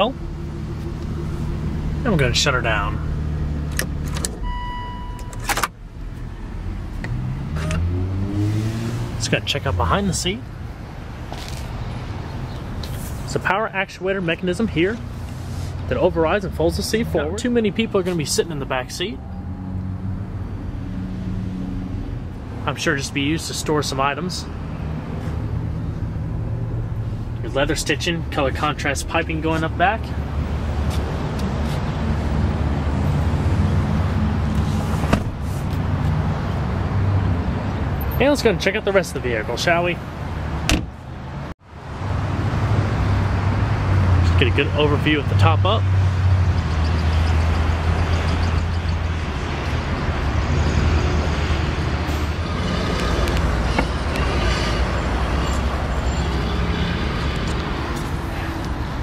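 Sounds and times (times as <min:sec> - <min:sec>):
road traffic hum: 0:00.0 - 0:59.0.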